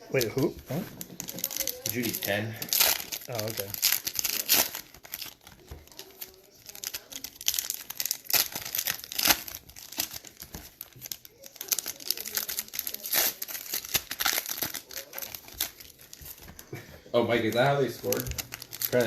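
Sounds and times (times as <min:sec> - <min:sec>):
card wrappers crinkling and tearing: 0:00.0 - 0:19.0.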